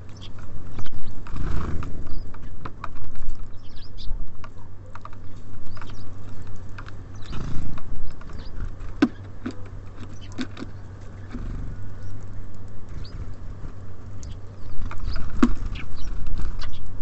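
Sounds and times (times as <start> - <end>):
beaks pecking seed: 0.0 - 17.0
rustle: 0.0 - 17.0
steady low hum: 0.0 - 17.0.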